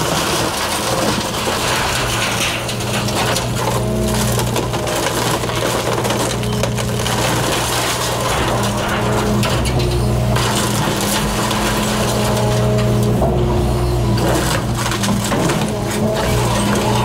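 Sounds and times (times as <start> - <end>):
excavator diesel engine under load: 0.0 - 17.0
timber cracking and splintering: 0.0 - 17.0.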